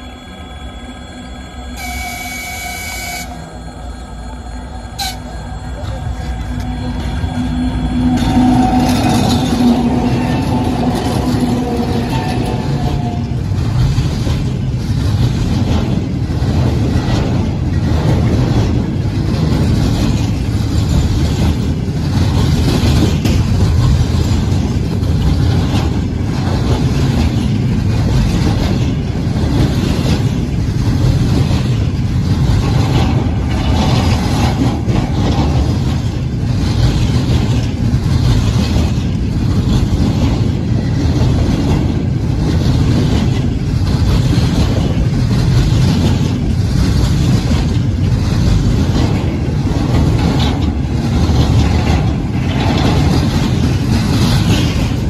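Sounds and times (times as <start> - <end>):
diesel locomotive tone: 0.0 - 55.0
freight train rumble: 0.0 - 55.0
wheels clattering over rail joints: 5.8 - 55.0.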